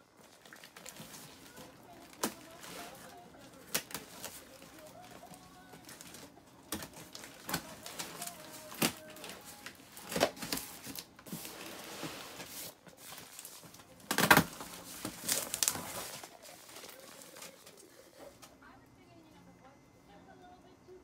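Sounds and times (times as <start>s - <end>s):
cardboard and tape tearing: 0.2s - 18.4s.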